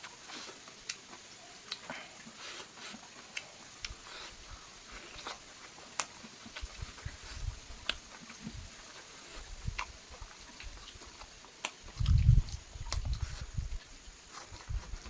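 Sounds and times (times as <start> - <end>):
mouth clicks and crunches: 0.0 - 15.0
person chewing chicken: 0.0 - 15.0.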